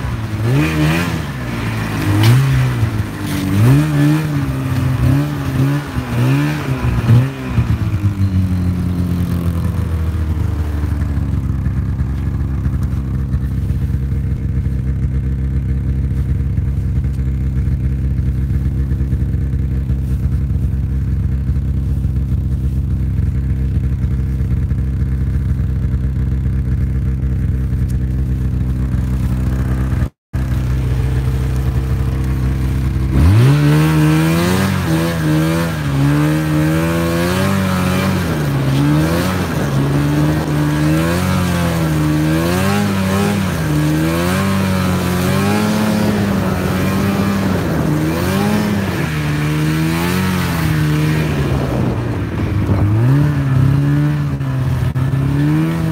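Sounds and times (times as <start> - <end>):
snowmobile engine idling and revving: 0.0 - 55.9.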